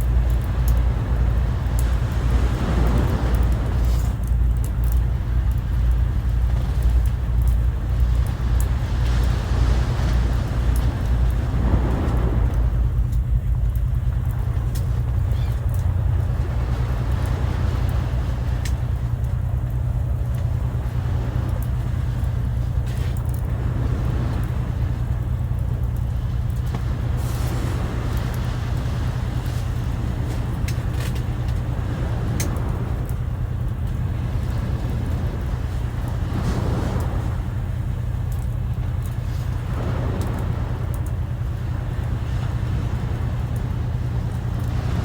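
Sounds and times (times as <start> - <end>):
sea waves washing in: 0.0 - 45.0.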